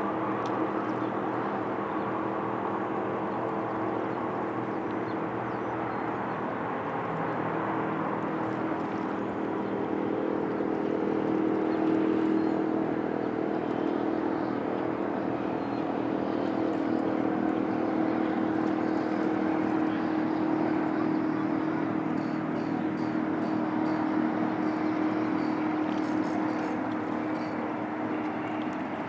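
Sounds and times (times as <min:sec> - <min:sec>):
engine drone: 0:00.0 - 0:29.0.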